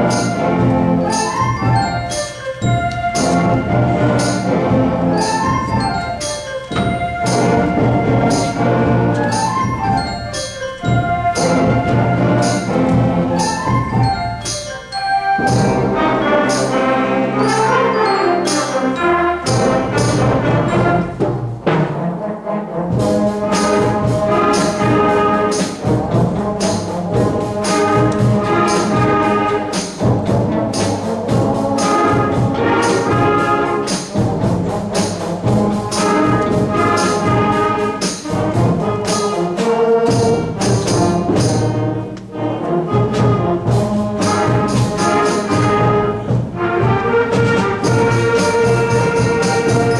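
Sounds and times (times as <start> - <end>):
concert band playing: 0.0 - 49.9
regular drum beat: 0.0 - 49.9.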